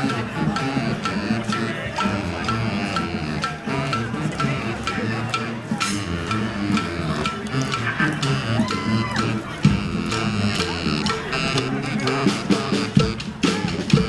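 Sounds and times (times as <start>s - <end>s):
brass band with drums: 0.0s - 14.0s.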